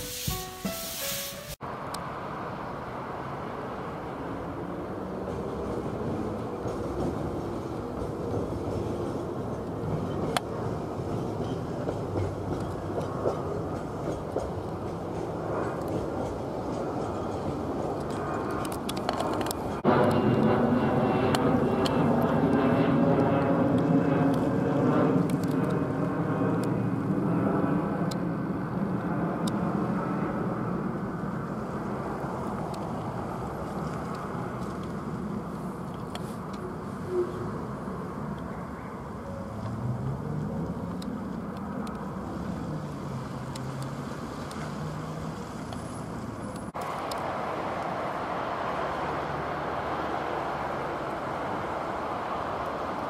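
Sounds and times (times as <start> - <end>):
jet airliner roar overhead: 1.3 - 53.0.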